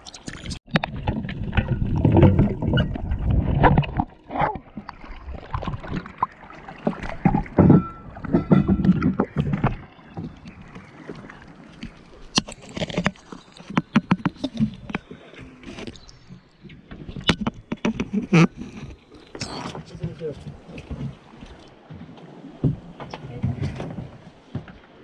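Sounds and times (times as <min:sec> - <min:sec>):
underwater rumble: 0:00.0 - 0:25.0
water splashing and sloshing: 0:00.0 - 0:25.0.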